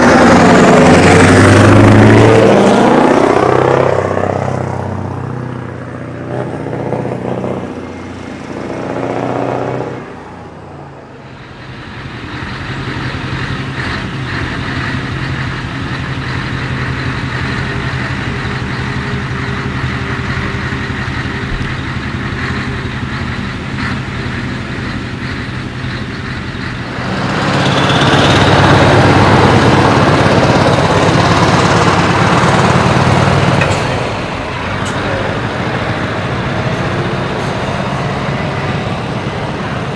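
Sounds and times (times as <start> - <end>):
diesel trucks driving past: 0.0 - 39.9.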